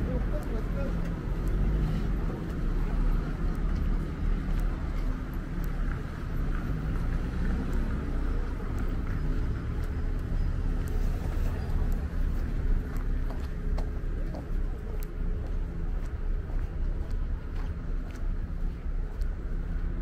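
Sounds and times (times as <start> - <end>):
faint clicks: 0.0 - 16.2
road traffic rumble: 0.0 - 20.0.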